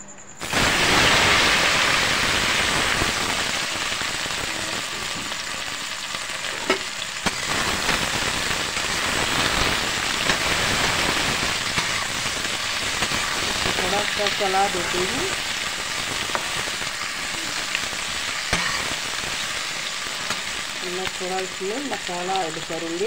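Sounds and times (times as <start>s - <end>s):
okra sizzling in hot oil: 0.4s - 23.0s.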